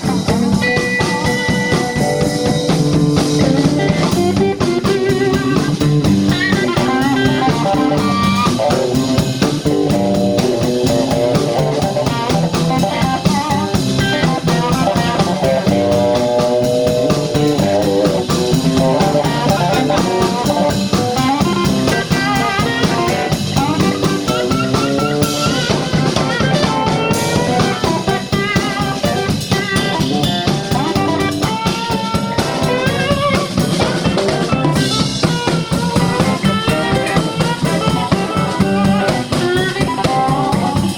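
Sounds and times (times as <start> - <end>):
live blues band playing: 0.0 - 40.9.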